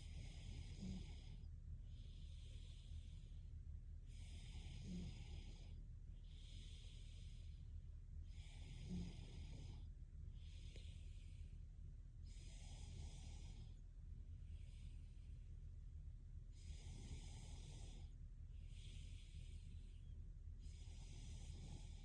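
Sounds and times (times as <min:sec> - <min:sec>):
woman breathing in sleep: 0:00.0 - 0:15.7, 0:16.4 - 0:22.0
steady low hum: 0:00.0 - 0:22.0.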